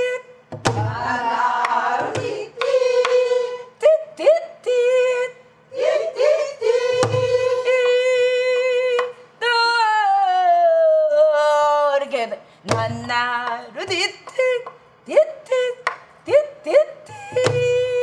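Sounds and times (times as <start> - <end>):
woman singing wordless melody: 0.0 - 1.2, 2.2 - 5.7, 6.9 - 18.0.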